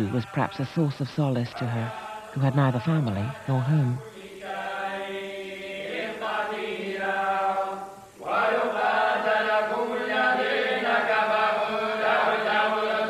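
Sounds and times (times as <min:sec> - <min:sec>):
men chanting long notes: 0:00.0 - 0:13.0.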